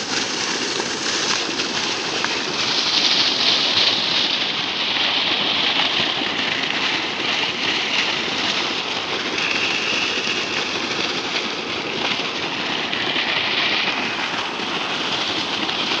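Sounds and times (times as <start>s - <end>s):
water gushing from pipe: 0.0s - 16.0s.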